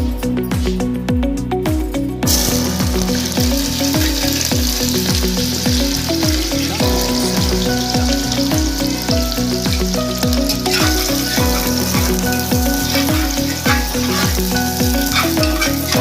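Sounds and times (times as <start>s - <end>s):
background music with a beat: 0.0s - 16.0s
food sizzling in hot oil: 2.3s - 16.0s.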